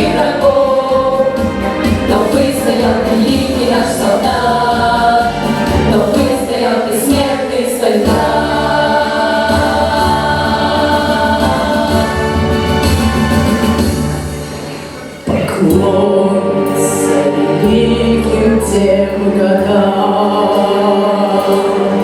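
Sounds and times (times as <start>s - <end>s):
instrumental accompaniment: 0.0s - 22.0s
vocal ensemble singing: 0.0s - 22.0s.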